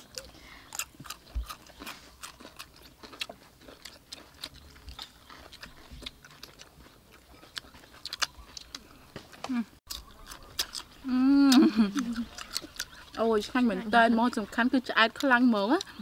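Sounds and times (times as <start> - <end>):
people chewing crispy fried chicken: 0.0 - 16.0.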